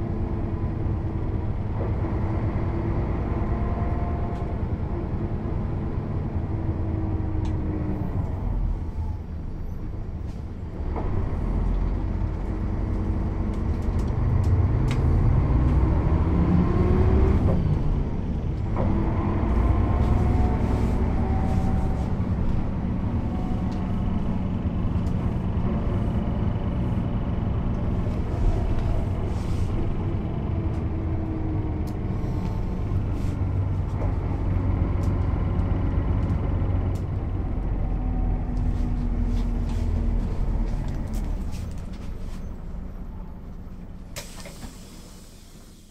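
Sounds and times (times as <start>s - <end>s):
bus diesel engine pulling: 0.0s - 45.9s.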